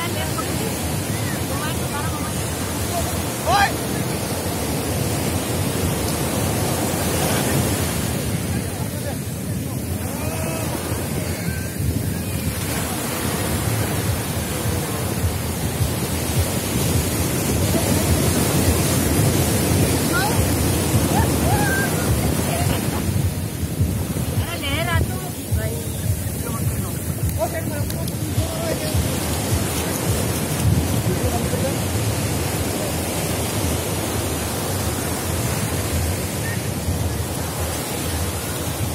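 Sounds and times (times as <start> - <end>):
sea surf breaking on sand: 0.0 - 38.9
wind rumbling on microphone: 0.0 - 38.9.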